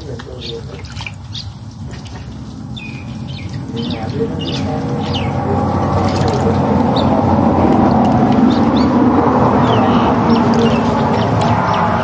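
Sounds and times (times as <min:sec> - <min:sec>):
small birds chirping: 0:00.0 - 0:12.0
low rumble: 0:01.6 - 0:12.0.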